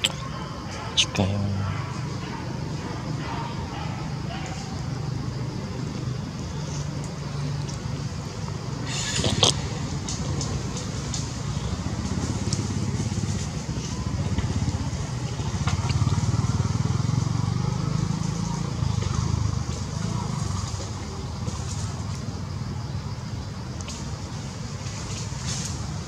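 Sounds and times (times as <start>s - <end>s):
passing traffic engine hum: 0.0s - 26.0s.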